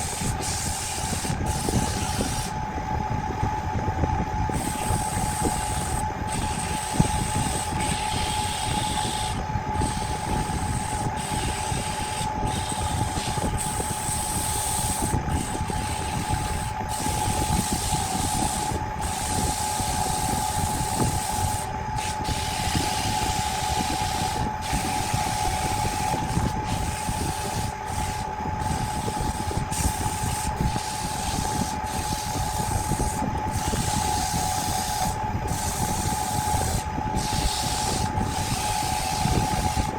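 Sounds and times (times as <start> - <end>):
power tool grinding wood: 4.6 - 39.9.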